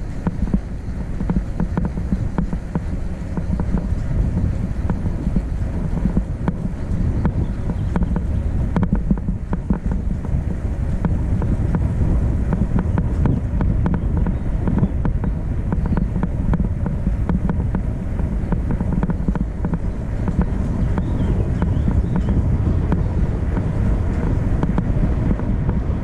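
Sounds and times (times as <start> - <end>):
small rattles and clicks: 0.0 - 26.0
vehicle engine and road noise: 0.0 - 26.0
wind buffeting microphone: 0.0 - 26.0.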